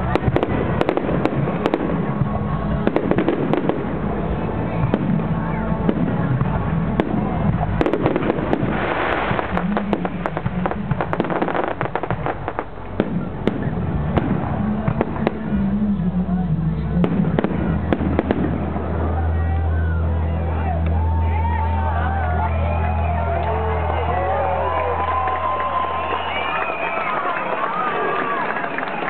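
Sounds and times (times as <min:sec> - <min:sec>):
firework bangs and crackles: 0:00.0 - 0:20.9, 0:22.7 - 0:29.0.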